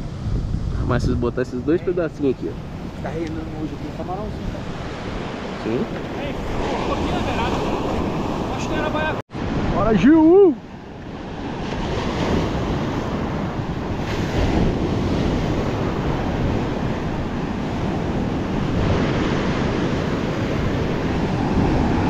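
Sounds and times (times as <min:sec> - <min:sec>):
surf washing up a beach: 0:00.0 - 0:22.0
wind buffeting microphone: 0:00.0 - 0:22.0.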